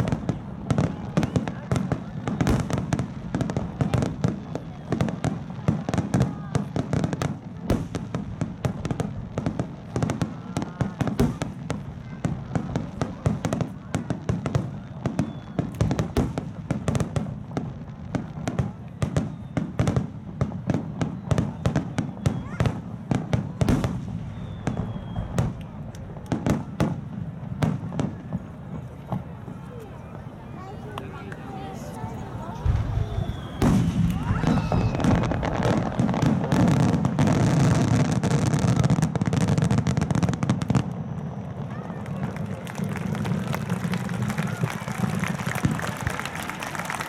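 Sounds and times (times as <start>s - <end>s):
fireworks booming and crackling: 0.0s - 47.0s.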